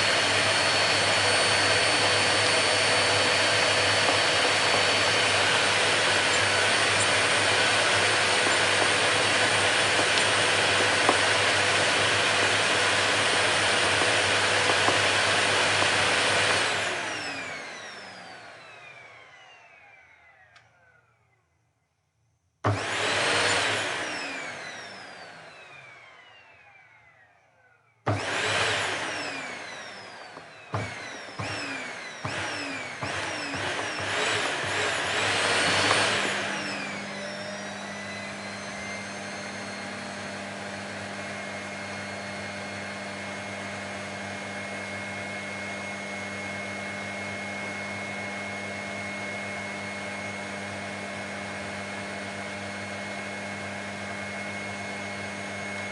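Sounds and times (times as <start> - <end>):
vacuum cleaner motor: 0.0 - 21.4, 22.6 - 55.9.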